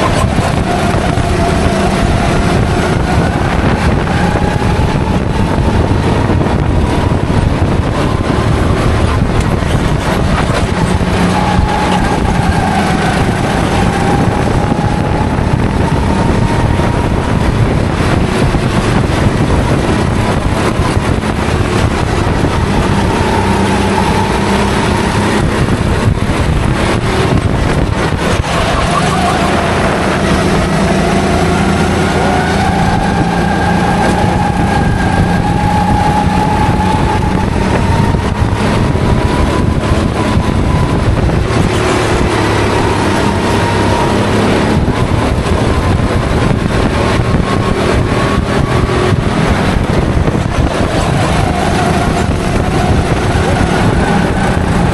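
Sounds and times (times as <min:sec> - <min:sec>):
go-kart engine racing: 0:00.0 - 0:54.9.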